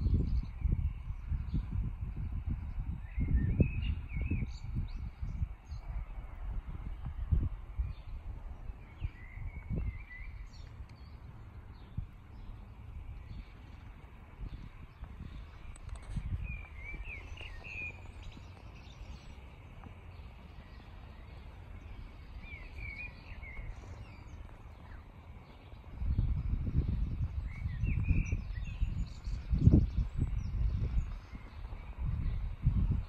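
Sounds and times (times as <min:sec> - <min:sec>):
small birds chirping: 0:00.0 - 0:33.0
wind rumble on microphone: 0:00.0 - 0:33.0.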